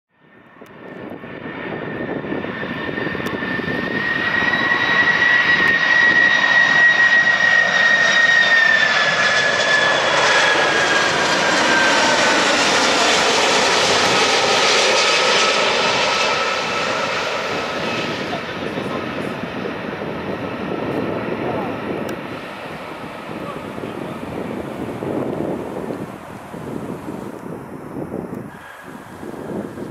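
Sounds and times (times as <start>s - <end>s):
jet engines roaring with whine: 0.2s - 29.9s.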